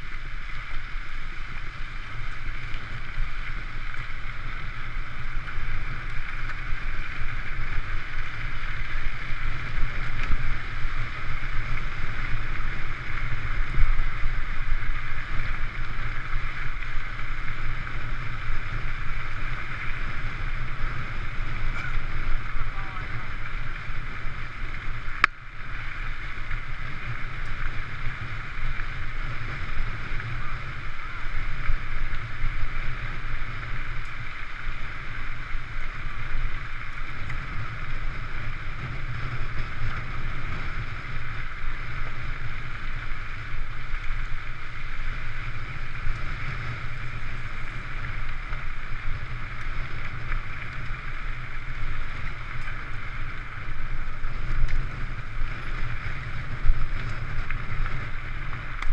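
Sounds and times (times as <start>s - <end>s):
tyres rolling on gravel: 0.0s - 58.9s.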